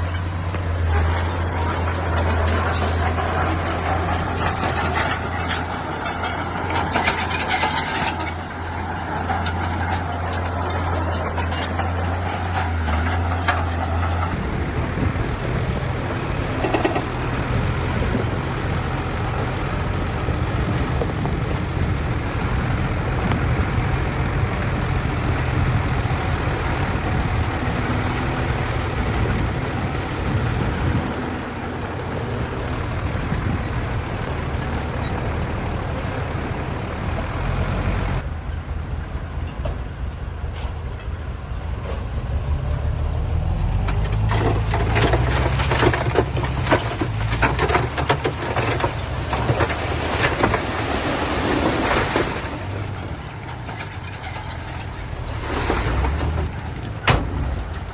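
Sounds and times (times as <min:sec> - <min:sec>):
diesel machinery engine: 0:00.0 - 0:57.9.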